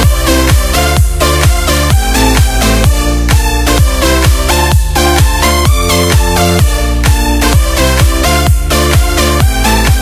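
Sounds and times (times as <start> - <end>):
electronic dance music: 0.0 - 10.0
steady kick drum: 0.0 - 10.0.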